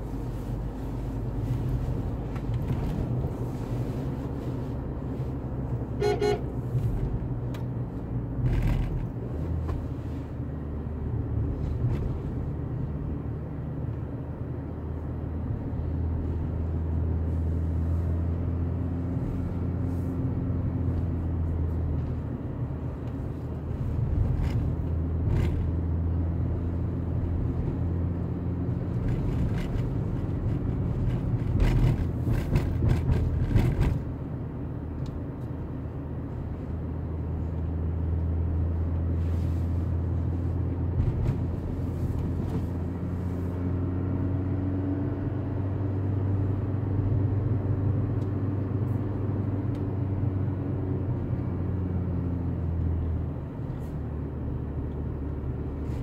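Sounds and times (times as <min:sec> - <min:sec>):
car engine hum: 0:00.0 - 0:56.0
road noise inside car: 0:00.0 - 0:56.0.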